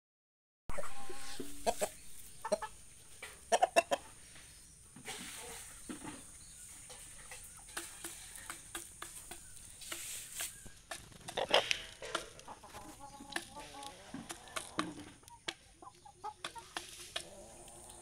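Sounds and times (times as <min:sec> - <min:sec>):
chickens clucking: 0:00.7 - 0:18.0.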